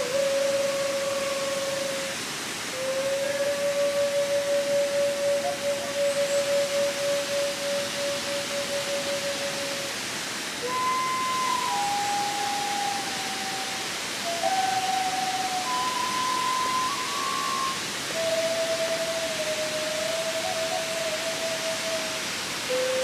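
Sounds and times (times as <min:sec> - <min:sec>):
bamboo flutes playing long notes: 0:00.0 - 0:23.0
waterfall rushing: 0:00.0 - 0:23.0.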